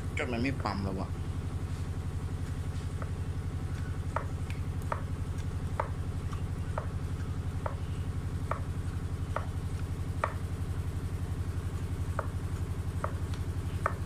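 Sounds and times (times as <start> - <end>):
low pulsing hum: 0.0 - 14.0.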